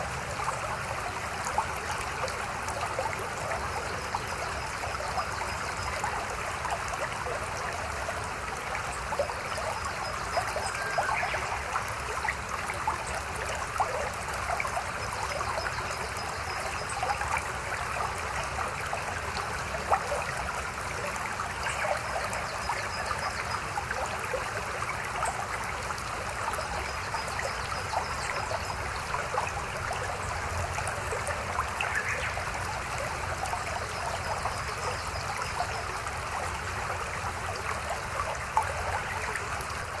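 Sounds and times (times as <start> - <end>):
stream babbling over rocks: 0.0 - 40.0.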